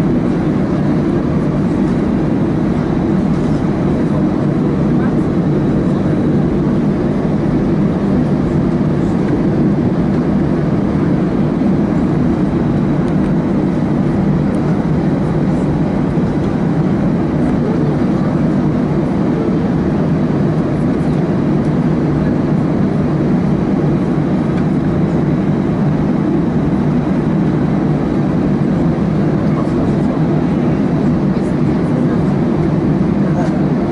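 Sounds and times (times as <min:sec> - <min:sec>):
aircraft engine and cabin rumble: 0:00.0 - 0:33.9.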